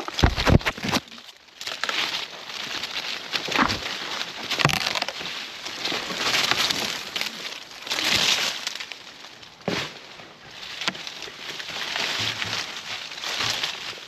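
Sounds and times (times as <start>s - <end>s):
leaves and branches rustling: 0.0s - 14.0s.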